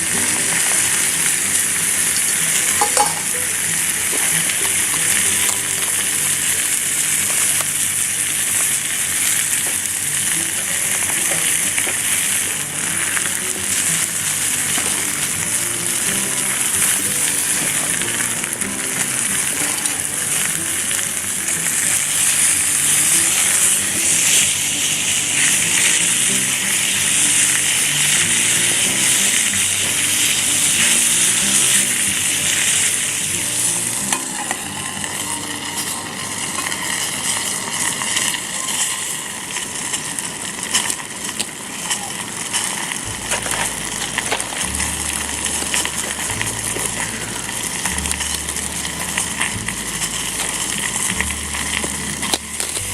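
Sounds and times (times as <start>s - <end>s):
chicken sizzling in a pan: 0.0s - 52.9s
soft background music: 0.0s - 52.9s.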